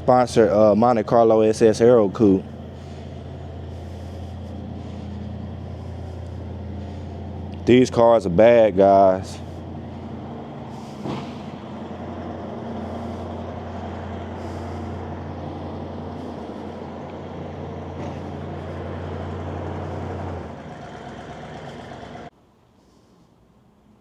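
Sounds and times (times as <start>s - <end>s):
car engine idling: 0.0s - 22.3s.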